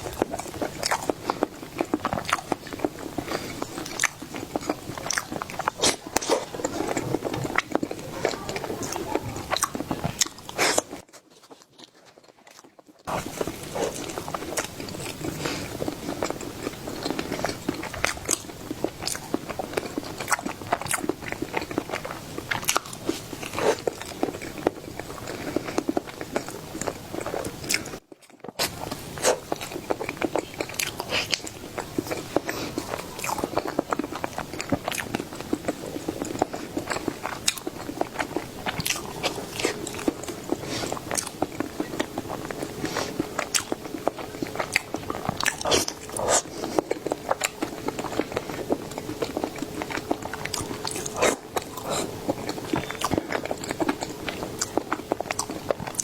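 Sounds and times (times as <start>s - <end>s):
person biting and chewing: 0.0s - 56.0s.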